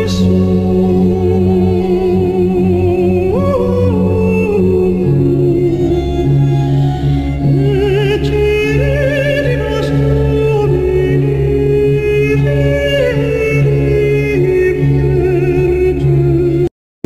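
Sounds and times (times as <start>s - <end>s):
slow song with vibrato voice: 0.0s - 16.7s.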